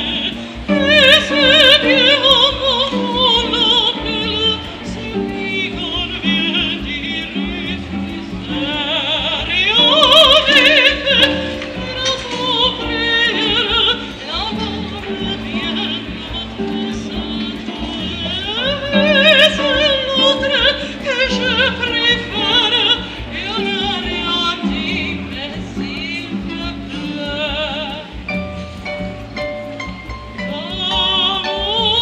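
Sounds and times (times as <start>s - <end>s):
harp: 0.0s - 32.0s
soprano singing opera: 0.0s - 32.0s.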